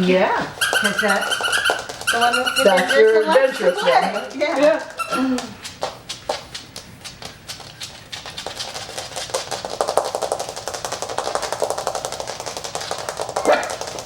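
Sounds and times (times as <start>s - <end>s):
fingernails drumming on plastic: 0.6s - 14.0s.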